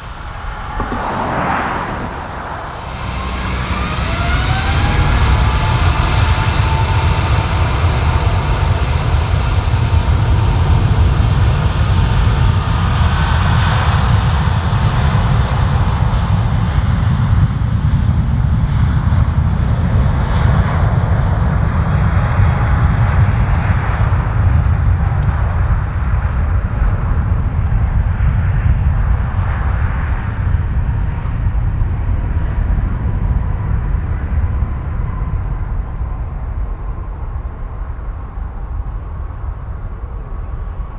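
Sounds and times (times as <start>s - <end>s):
jet engines rumbling and whining: 0.0s - 18.6s, 19.2s - 40.9s.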